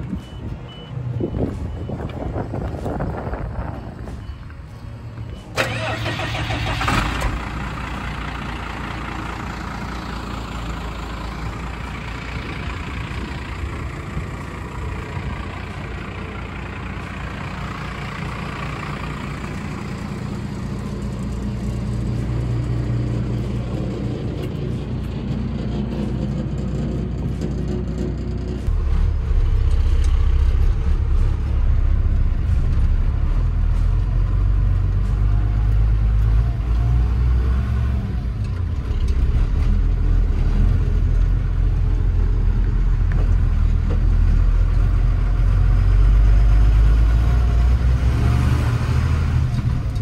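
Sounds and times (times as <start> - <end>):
diesel engine starting and idling: 0.0 - 50.0.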